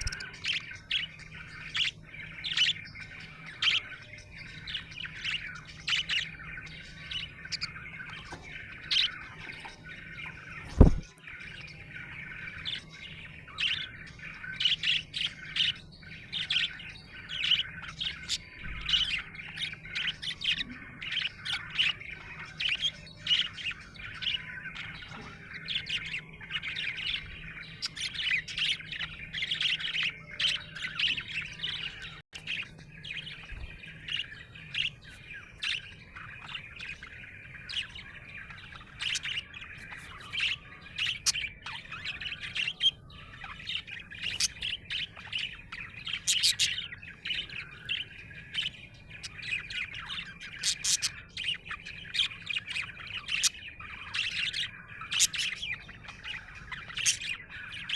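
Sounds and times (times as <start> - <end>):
budgerigar chirping: 0.0 - 57.9.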